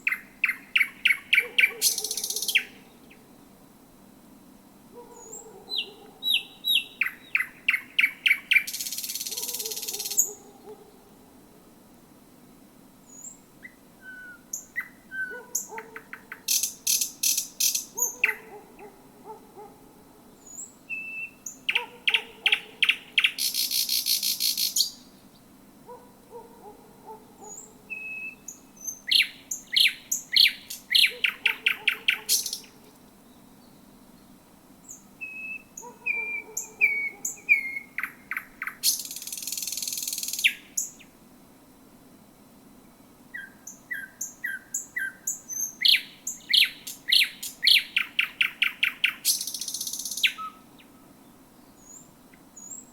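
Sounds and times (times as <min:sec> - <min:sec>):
nightingale singing: 0:00.0 - 0:03.3, 0:05.0 - 0:10.9, 0:13.0 - 0:18.9, 0:20.4 - 0:25.5, 0:27.4 - 0:41.1, 0:42.9 - 0:52.9.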